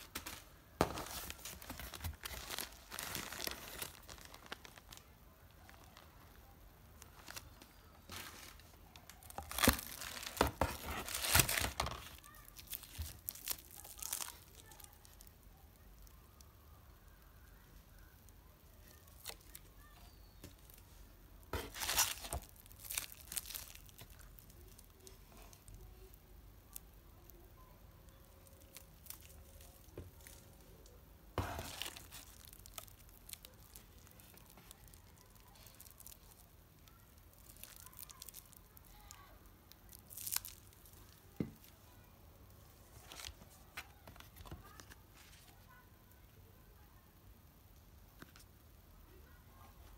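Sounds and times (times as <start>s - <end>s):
packaging crinkling and tearing: 0.0s - 16.1s, 18.8s - 27.4s, 28.1s - 41.7s, 42.8s - 45.7s.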